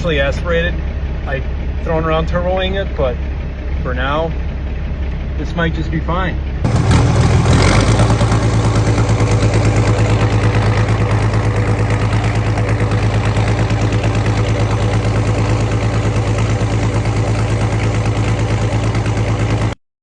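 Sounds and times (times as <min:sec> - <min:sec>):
tractor diesel engine idling: 0:00.0 - 0:19.8.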